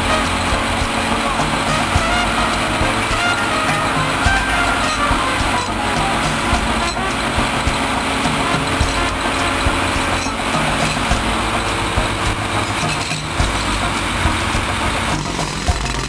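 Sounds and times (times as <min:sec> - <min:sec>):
construction machinery engine running: 0:00.0 - 0:16.0.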